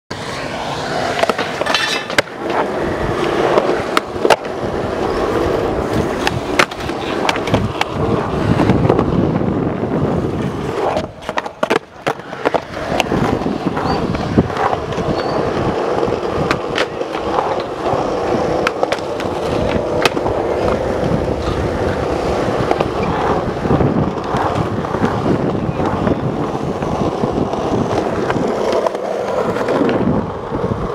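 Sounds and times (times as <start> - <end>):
skateboard wheels rolling on concrete: 0.1 - 30.9
skateboard clacking on ground: 0.2 - 30.9.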